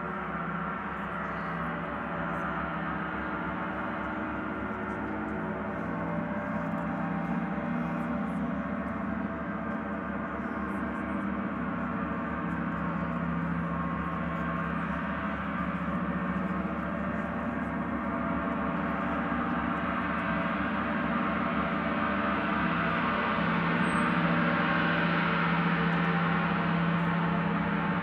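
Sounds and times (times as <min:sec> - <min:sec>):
gong shimmering: 0:00.0 - 0:28.0.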